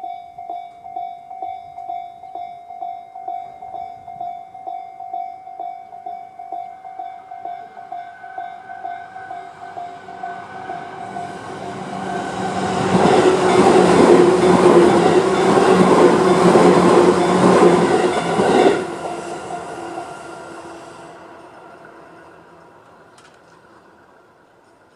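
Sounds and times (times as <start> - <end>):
level crossing warning bell: 0.0 - 20.5
electric train passing: 0.0 - 24.9.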